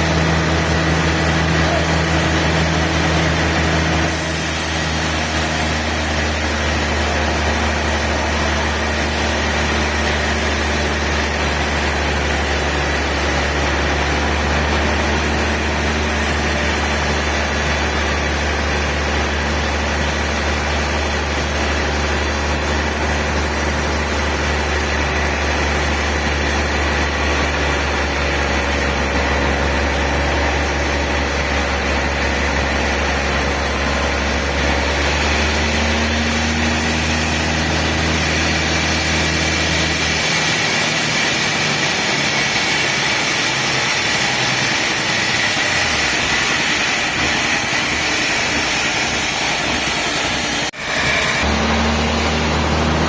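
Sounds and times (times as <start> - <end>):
sawmill machinery drone: 0.0 - 53.0.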